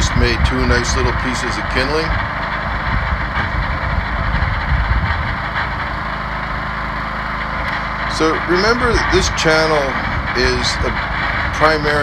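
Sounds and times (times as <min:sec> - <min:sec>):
log splitter engine running: 0:00.0 - 0:12.0.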